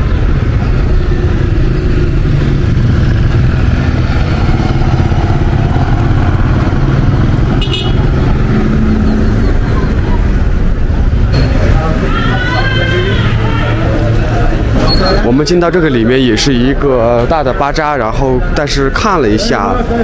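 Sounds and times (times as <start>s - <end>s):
cars and motorbikes driving past: 0.0s - 20.0s.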